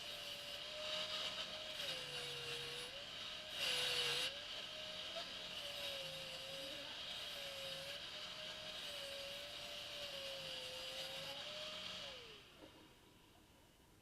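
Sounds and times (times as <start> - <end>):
power tool rasping cut: 0.0 - 12.5
power tool motor whining: 0.0 - 12.6.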